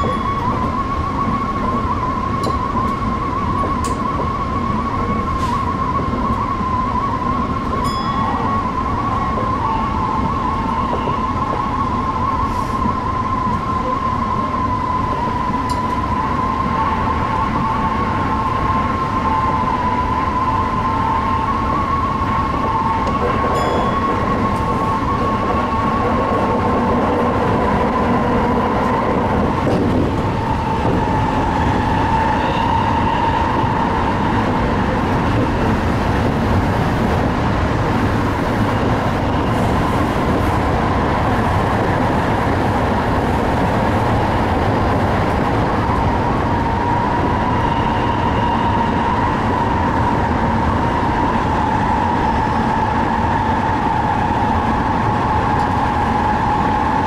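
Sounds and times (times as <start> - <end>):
electric train whine: 0.0 - 57.0
train wheels rumbling on rail: 0.0 - 57.0.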